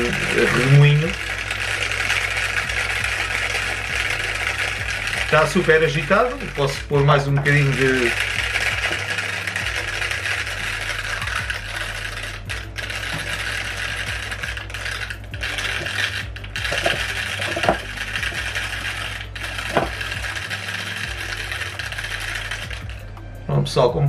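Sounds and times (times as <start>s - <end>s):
magnet rattling: 0.0s - 23.1s
fan whirring: 0.0s - 24.0s.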